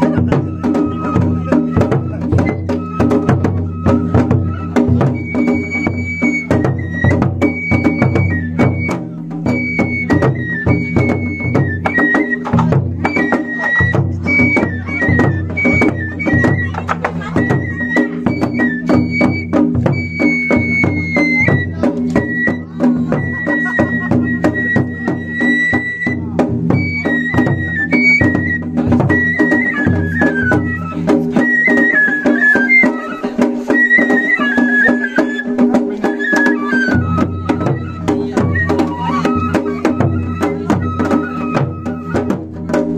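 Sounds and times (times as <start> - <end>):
bamboo flute melody: 0.0 - 42.9
taiko drums beating: 0.0 - 42.9.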